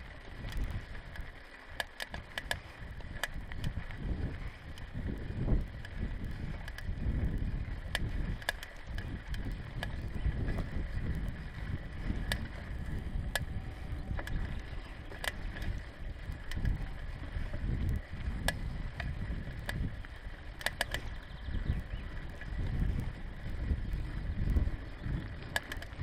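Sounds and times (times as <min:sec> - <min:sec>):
bike clicks and rattles: 0:00.0 - 0:26.0
wind rumble on microphone: 0:00.0 - 0:26.0.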